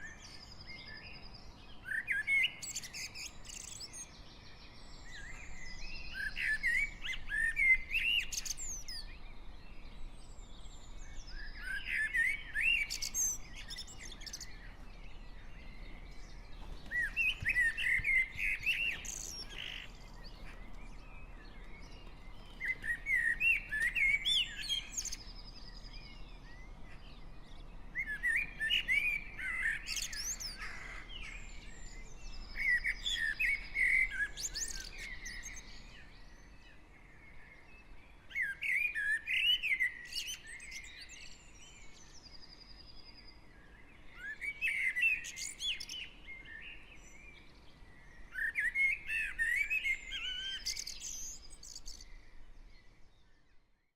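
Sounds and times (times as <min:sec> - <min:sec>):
bird warbling song: 0:00.0 - 0:53.9.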